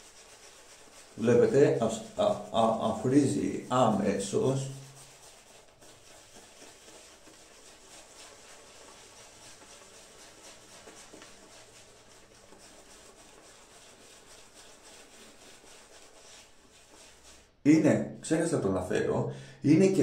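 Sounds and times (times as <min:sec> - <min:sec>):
shaving brush swishing lather: 0:00.0 - 0:17.6.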